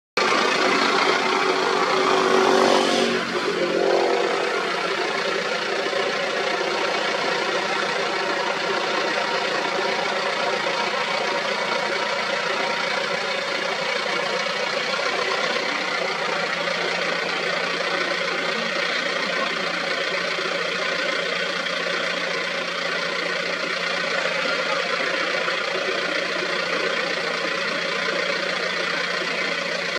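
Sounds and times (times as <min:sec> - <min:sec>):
vehicle engine idling: 0:00.2 - 0:29.9.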